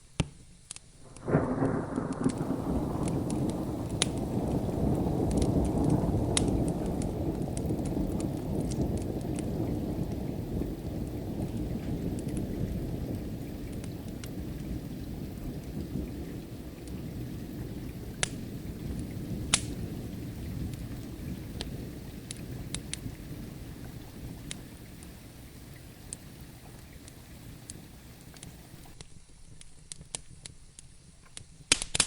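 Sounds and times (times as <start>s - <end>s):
wood fire popping: 0.2s - 32.0s
steady rain: 0.6s - 29.0s
low thunder rumbling: 1.0s - 29.0s.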